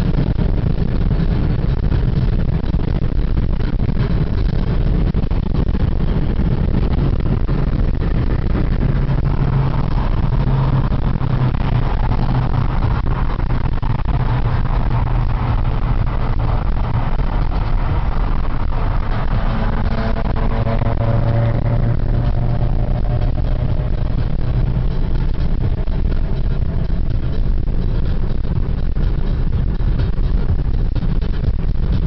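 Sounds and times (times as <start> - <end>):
car engine: 0.0 - 32.0
road noise: 0.0 - 32.0.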